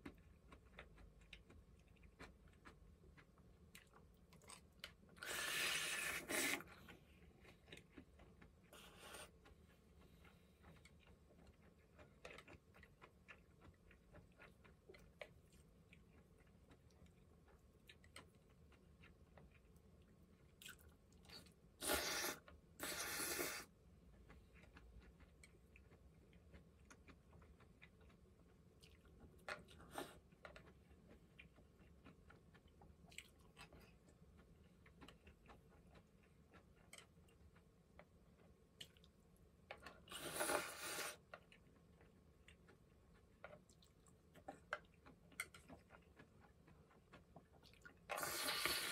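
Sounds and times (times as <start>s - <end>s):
faint chewing and clicks: 0.0s - 48.9s.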